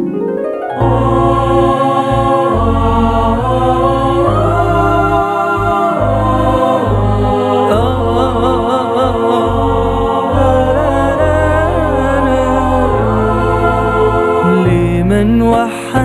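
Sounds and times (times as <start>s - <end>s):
choir-like chords: 0.0s - 16.0s
wavering vocal line: 0.0s - 16.0s
deep bass notes: 0.8s - 15.7s.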